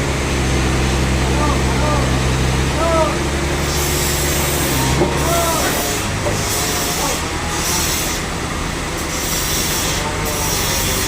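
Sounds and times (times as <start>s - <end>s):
sawmill saw cutting log: 0.0s - 11.0s.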